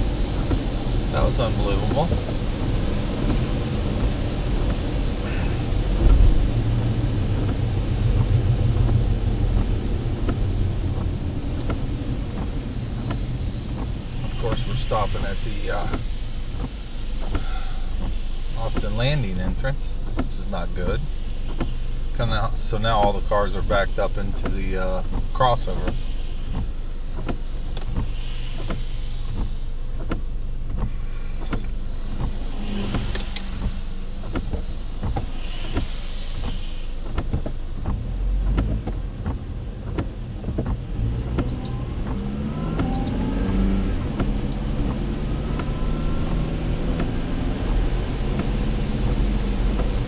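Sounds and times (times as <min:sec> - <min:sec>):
car engine idling and revving: 0:00.0 - 0:50.0
tyres hissing on wet road: 0:00.0 - 0:50.0
light ticks: 0:07.4 - 0:50.0.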